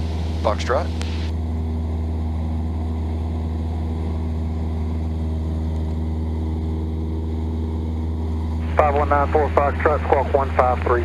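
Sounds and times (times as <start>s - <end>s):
aircraft engine drone in cabin: 0.0s - 11.0s.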